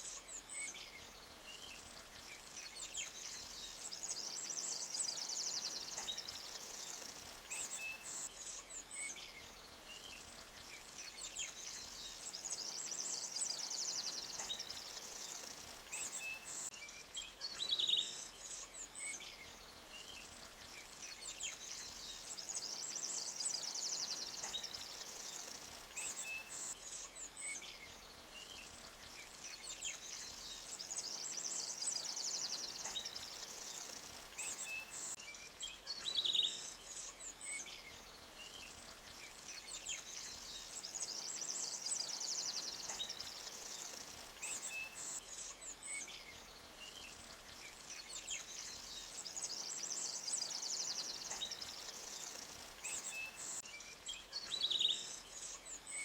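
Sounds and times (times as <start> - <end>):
flowing stream hiss: 0.0 - 56.0
small birds chirping: 0.0 - 56.0.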